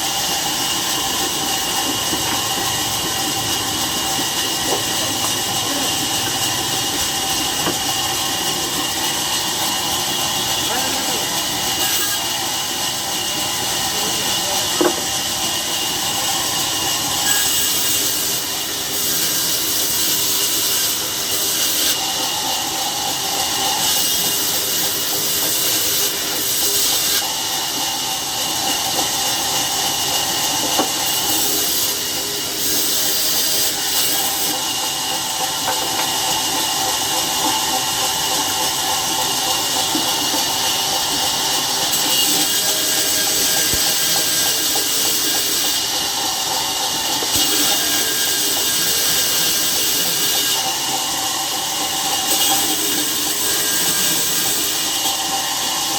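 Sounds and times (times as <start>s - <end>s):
sawmill saw cutting wood: 0.0s - 55.9s.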